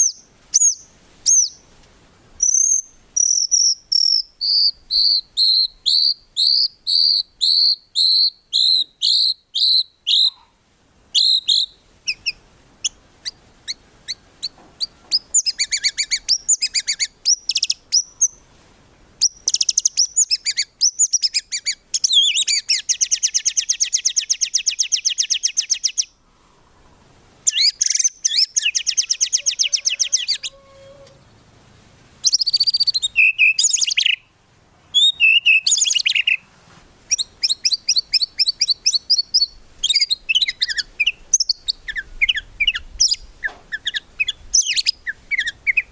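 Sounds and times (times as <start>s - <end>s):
songbird whistling and trilling: 0.0s - 1.6s, 2.4s - 10.4s, 11.1s - 13.4s, 14.1s - 18.4s, 19.2s - 26.1s, 27.4s - 31.2s, 32.2s - 34.3s, 34.9s - 36.4s, 37.1s - 45.9s.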